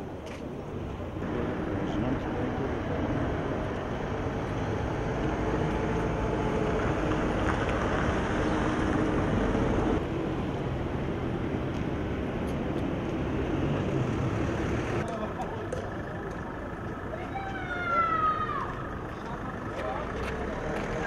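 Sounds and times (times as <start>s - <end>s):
vehicle engine running: 1.2s - 17.7s, 18.5s - 21.0s.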